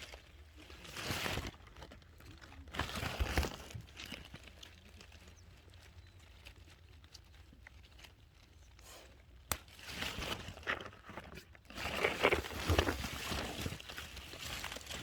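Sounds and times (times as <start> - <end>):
rustling and crinkling handling: 0.0 - 15.0.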